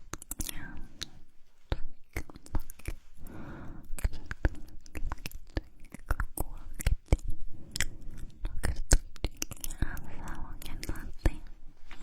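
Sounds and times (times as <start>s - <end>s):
wet mouth clicks and smacks: 0.0s - 3.2s, 3.8s - 11.4s
breathy whisper: 0.3s - 8.9s, 9.5s - 12.0s.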